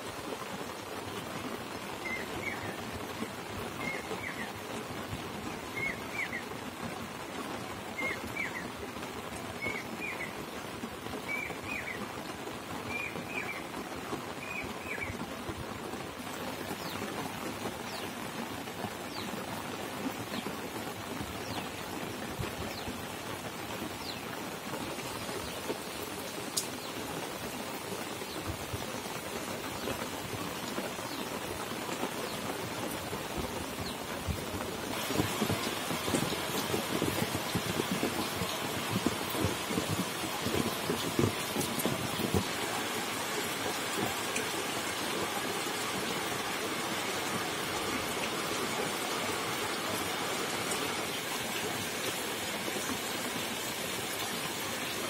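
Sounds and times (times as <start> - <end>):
rain falling on puddles: 0.0 - 55.0.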